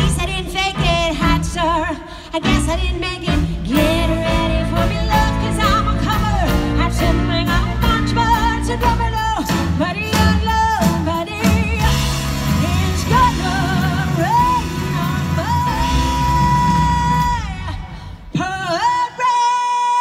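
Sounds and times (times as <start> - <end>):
live band playing: 0.0 - 18.4
woman singing into microphone: 0.0 - 20.0.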